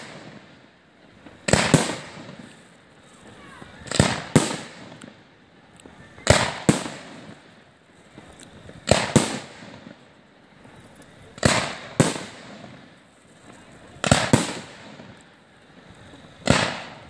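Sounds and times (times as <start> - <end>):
fireworks banging: 0.0 - 17.0.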